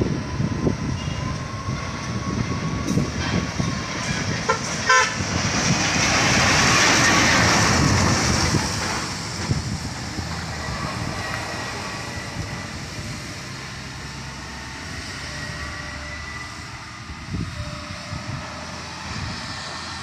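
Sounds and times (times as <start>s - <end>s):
road traffic engines rumbling: 0.0s - 20.0s.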